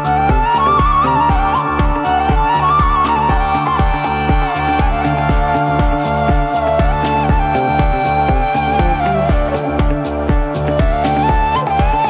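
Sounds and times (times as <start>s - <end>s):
gliding melody line: 0.0s - 12.0s
held drone: 0.0s - 12.0s
kick drum beat: 0.0s - 12.0s.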